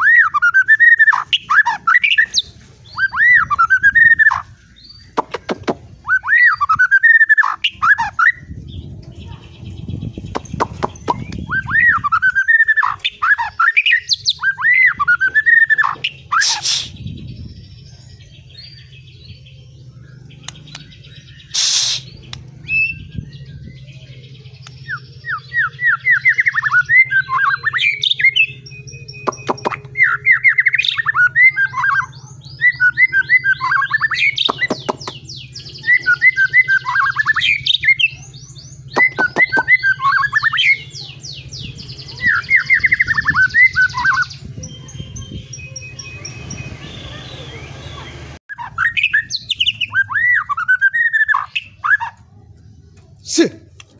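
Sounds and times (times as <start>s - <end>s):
songbird whistling song: 0.0s - 52.4s.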